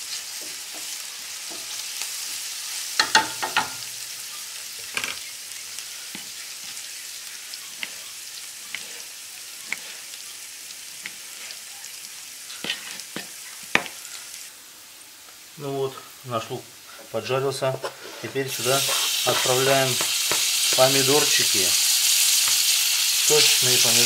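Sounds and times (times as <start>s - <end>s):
onion sizzling in oil: 0.0s - 24.0s.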